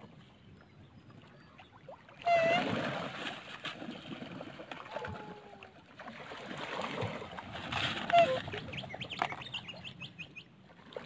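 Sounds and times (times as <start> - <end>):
water birds calling: 0.0 - 11.0
water birds splashing: 0.0 - 11.0.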